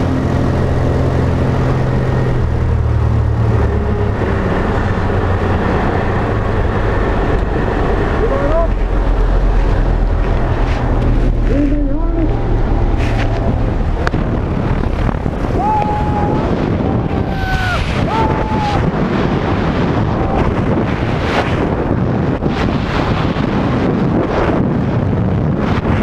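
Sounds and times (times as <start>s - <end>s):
freefall wind roaring: 0.0s - 26.0s.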